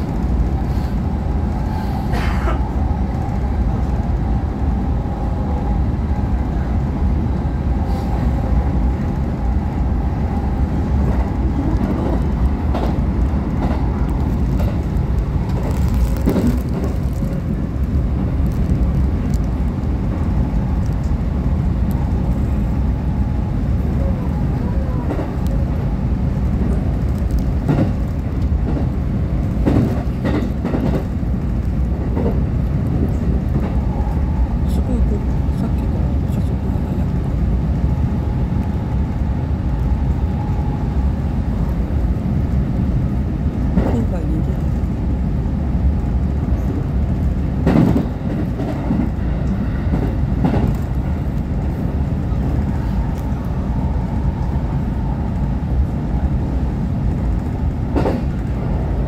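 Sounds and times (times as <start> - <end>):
train rumble from inside car: 0.0 - 59.0.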